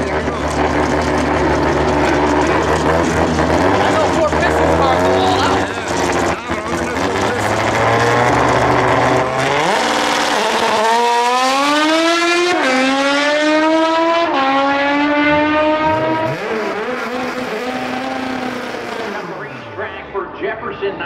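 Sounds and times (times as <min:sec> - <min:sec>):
car engine accelerating through gears: 0:00.0 - 0:19.8.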